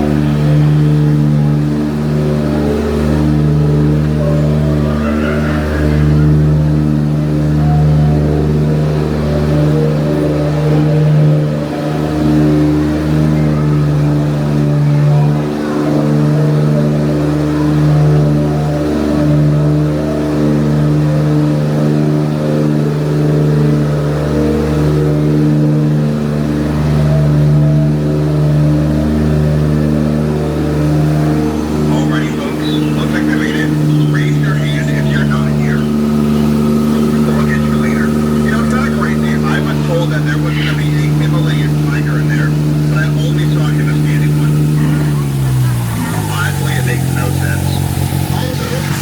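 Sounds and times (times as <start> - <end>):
boat engine droning: 0.0 - 49.0.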